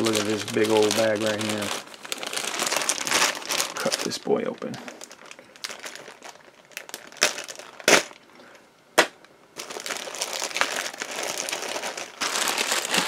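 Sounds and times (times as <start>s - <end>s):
plastic bag crinkling: 0.0s - 8.3s, 9.6s - 13.0s.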